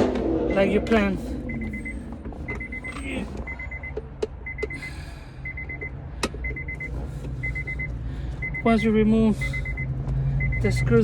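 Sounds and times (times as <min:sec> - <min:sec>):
car warning chime beeps: 0:00.0 - 0:11.0
steady low hum: 0:00.0 - 0:11.0.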